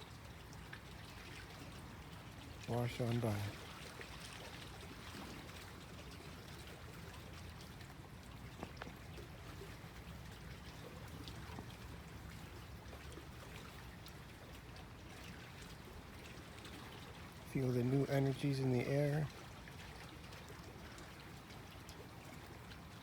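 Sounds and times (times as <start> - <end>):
faint water splashing: 0.0 - 23.0
waves lapping at shore: 0.0 - 23.0.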